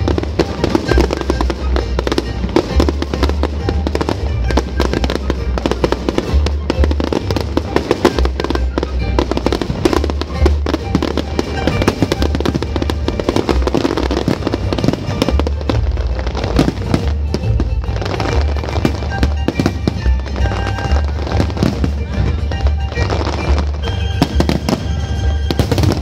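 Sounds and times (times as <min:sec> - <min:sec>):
fireworks bangs and crackles: 0:00.0 - 0:26.0
song with steady bass: 0:00.0 - 0:26.0.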